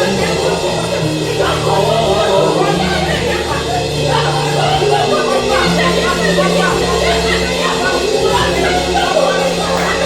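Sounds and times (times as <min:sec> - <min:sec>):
sustained bass notes: 0:00.0 - 0:10.0
worship band playing: 0:00.0 - 0:10.0.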